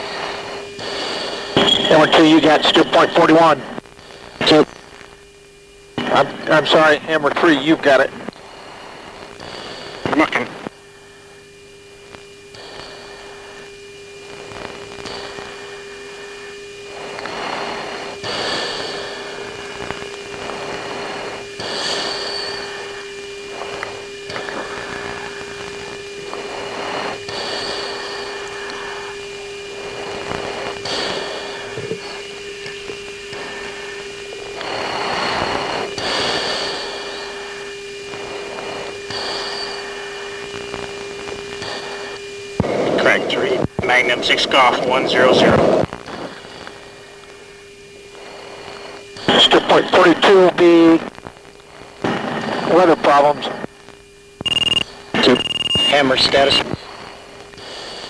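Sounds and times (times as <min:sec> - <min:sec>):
radio hiss: 0:00.0 - 0:58.0
steady cockpit hum: 0:00.0 - 0:58.0.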